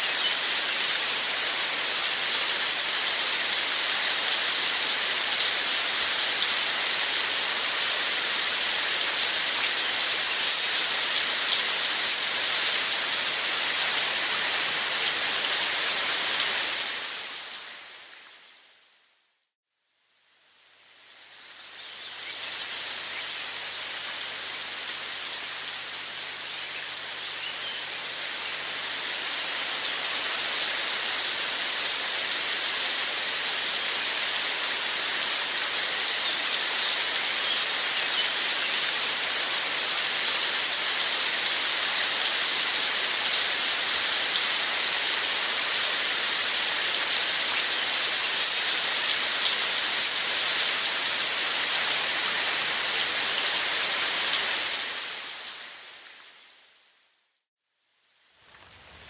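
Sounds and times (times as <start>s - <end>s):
steady rain: 0.0s - 19.4s, 20.0s - 59.0s.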